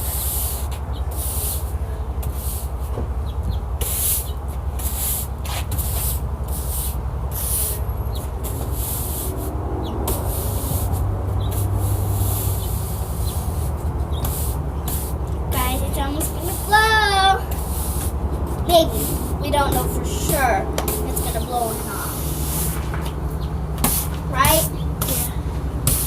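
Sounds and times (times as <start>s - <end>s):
broom sweeping sand: 0.0s - 2.8s, 3.8s - 7.8s, 8.4s - 22.9s.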